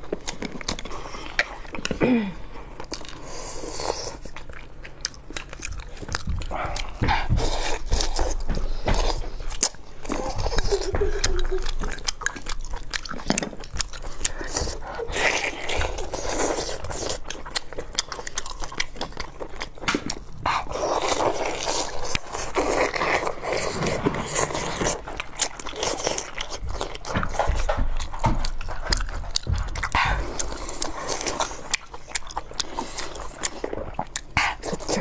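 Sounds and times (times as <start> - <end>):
wet chewing and lip-smacking: 0.0 - 35.0.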